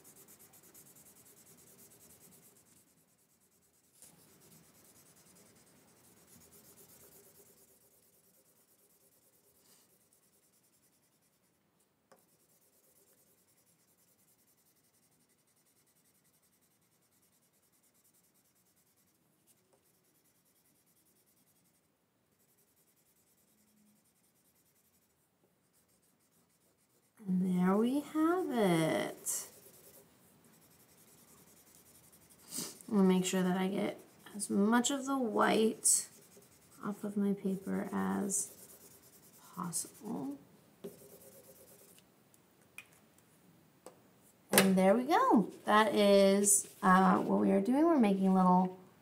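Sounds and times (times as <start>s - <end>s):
marker scratching on paper: 0.0s - 42.0s, 45.0s - 48.0s.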